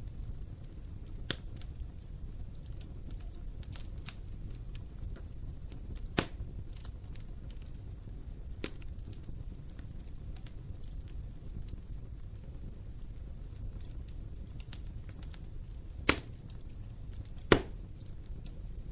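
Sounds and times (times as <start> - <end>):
low rumble of flames: 0.0 - 18.9
wood fire crackling and popping: 0.0 - 18.9.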